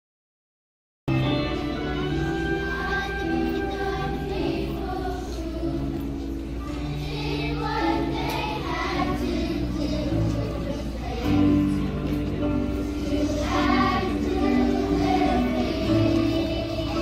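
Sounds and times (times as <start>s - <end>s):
children's choir singing: 1.1s - 17.0s
held accompaniment notes: 1.1s - 17.0s.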